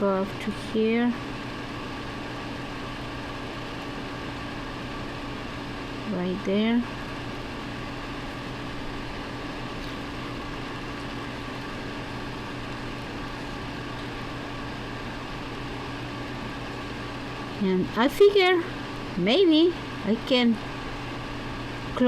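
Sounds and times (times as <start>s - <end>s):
machine hum and whir: 0.0s - 22.0s.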